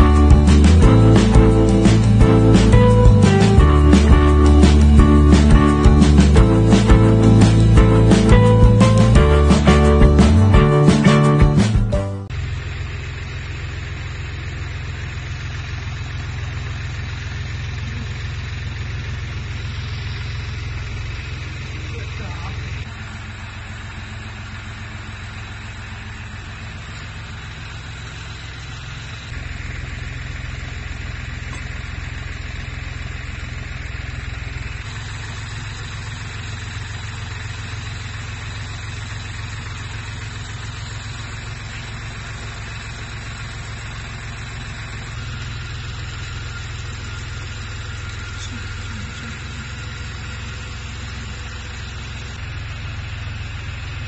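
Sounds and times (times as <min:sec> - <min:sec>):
excavator engine humming: 0:00.0 - 0:54.0.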